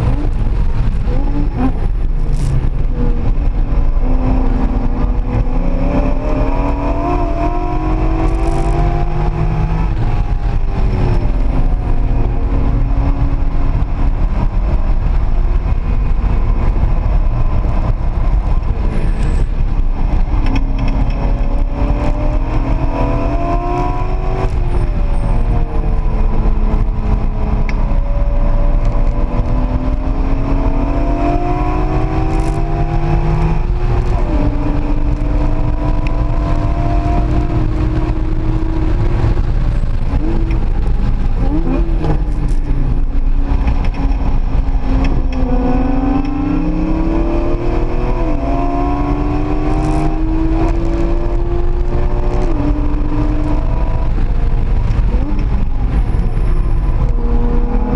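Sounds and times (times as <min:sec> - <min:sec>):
car engine revving: 0:00.0 - 0:57.9
road and wind noise: 0:00.0 - 0:57.9.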